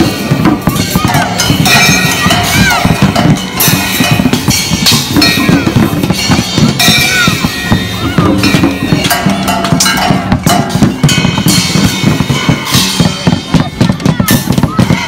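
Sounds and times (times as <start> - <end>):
held bass line: 0.0 - 15.0
music with busy drum beat: 0.0 - 15.0.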